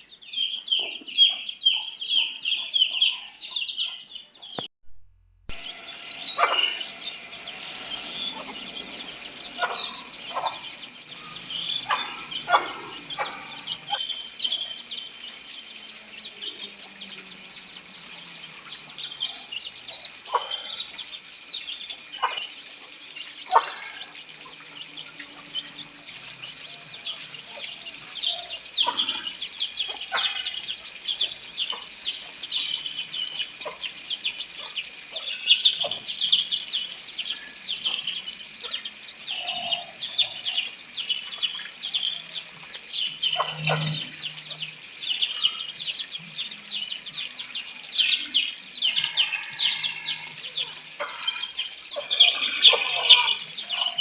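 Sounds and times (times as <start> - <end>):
chickens clucking: 5.5 - 14.7, 16.6 - 47.2, 47.9 - 54.0
high-pitched chirping chorus: 5.5 - 54.0.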